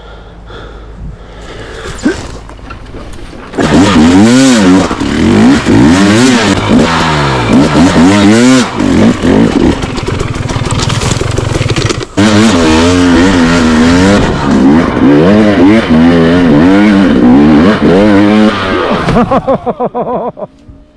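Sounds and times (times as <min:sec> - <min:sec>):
dirt bike engine revving: 0:01.4 - 0:19.9.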